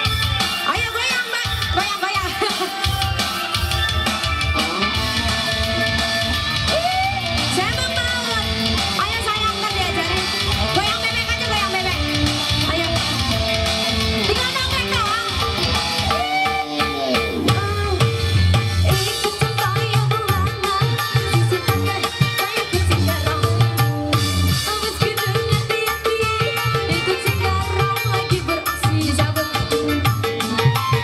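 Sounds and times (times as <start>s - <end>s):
woman singing into microphone: 0.0s - 3.5s, 5.4s - 31.0s
keyboard: 0.0s - 31.0s
live band music with guitar: 0.0s - 31.0s.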